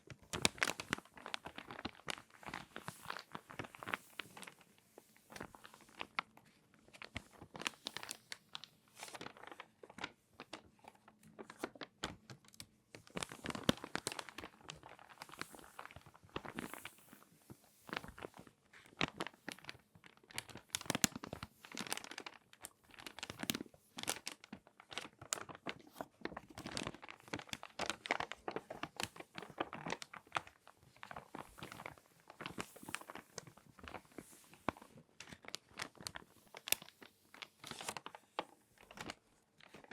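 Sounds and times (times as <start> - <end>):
magazine pages crinkling: 0.1 - 39.9.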